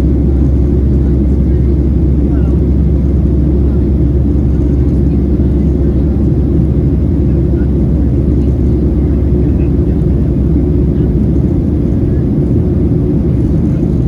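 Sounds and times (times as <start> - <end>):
airplane engines droning: 0.0 - 14.0
cabin airflow: 0.0 - 14.0.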